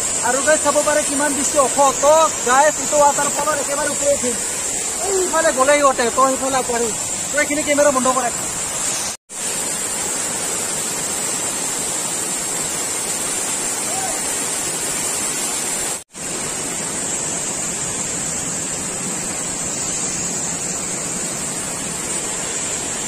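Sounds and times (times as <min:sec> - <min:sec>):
waterfall crashing onto rocks: 0:00.0 - 0:23.0.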